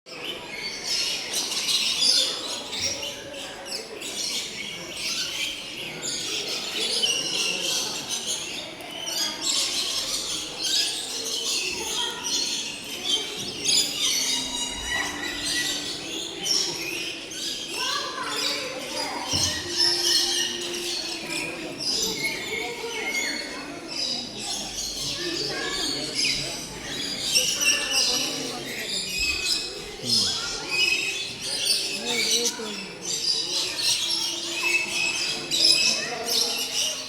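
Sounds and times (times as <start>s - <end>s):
birds chirping and calling: 0.1s - 37.0s.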